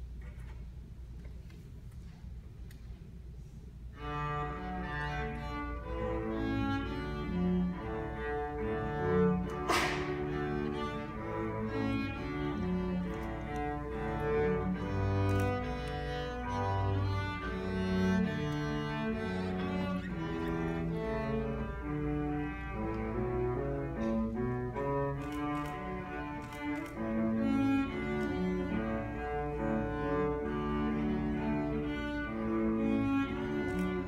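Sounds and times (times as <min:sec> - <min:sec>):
cellos playing bowed duet: 0:03.6 - 0:34.0.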